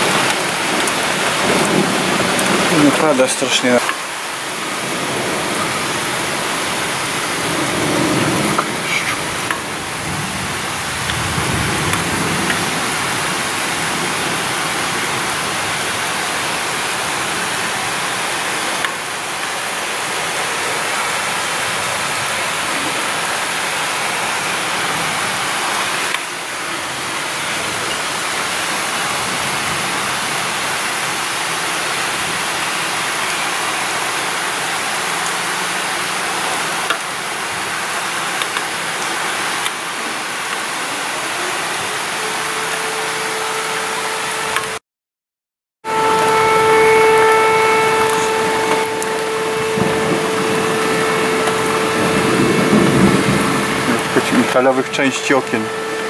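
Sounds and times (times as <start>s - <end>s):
heavy rain pouring: 0.0s - 44.8s, 45.8s - 56.0s.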